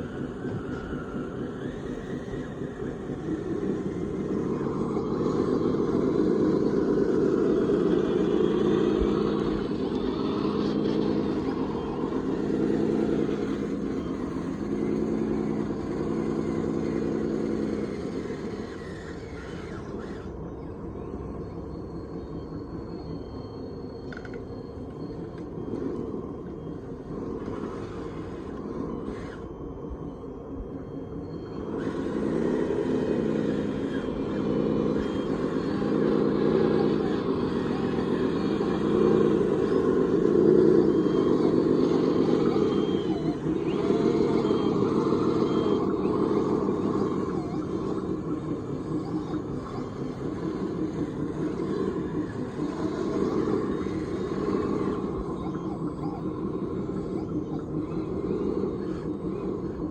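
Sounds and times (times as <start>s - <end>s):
electric motors and hydraulic pump humming: 0.0s - 59.9s.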